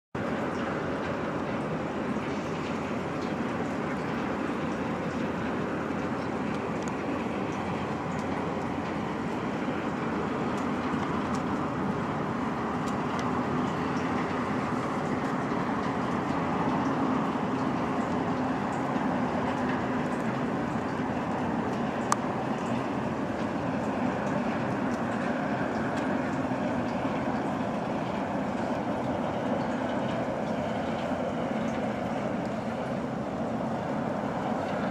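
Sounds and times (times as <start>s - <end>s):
ship engines rumbling: 0.2s - 34.9s.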